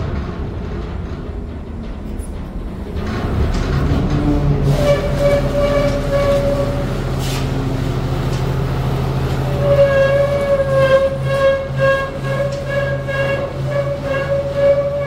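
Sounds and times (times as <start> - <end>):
diesel engine running: 0.0 - 15.0
hydraulic system whining: 0.0 - 15.0.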